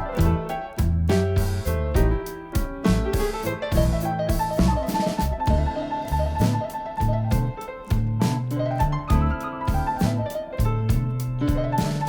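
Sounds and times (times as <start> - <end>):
background music with keyboard notes: 0.0 - 12.0.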